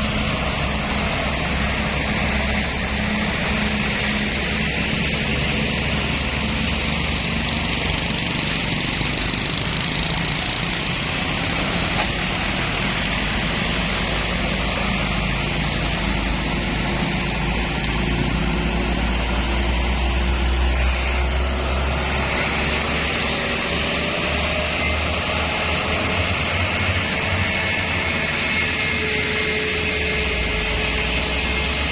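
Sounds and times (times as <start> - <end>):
traffic engines rumbling: 0.0 - 31.9.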